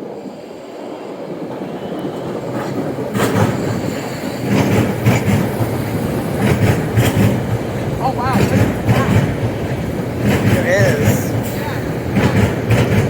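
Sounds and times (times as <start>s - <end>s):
train rumble: 0.0s - 13.0s
train wheels clacking on rail joints: 1.5s - 13.0s.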